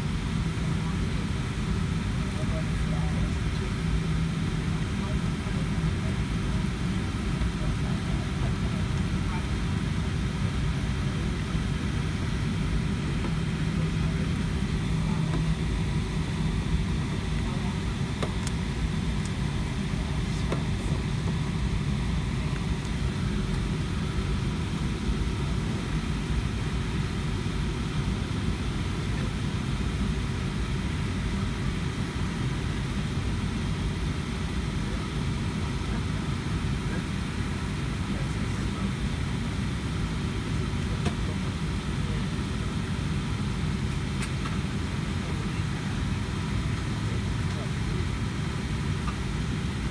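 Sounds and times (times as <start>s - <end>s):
jet engines idling: 0.0s - 49.9s.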